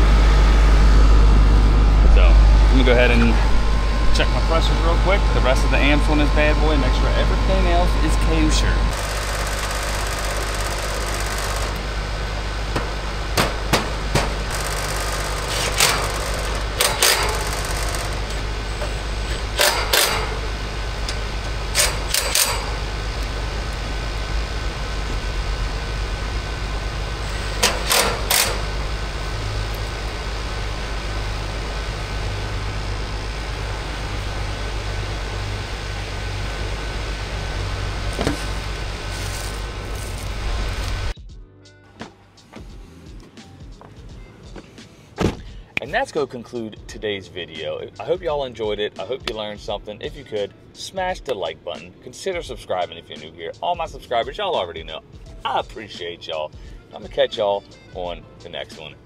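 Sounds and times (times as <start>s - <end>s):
air conditioner unit humming: 0.0s - 41.2s, 41.9s - 59.0s.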